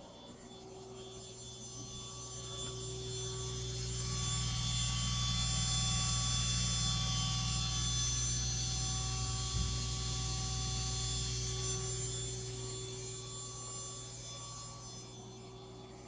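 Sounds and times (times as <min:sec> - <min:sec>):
spindle whine over hum: 0:00.0 - 0:16.0.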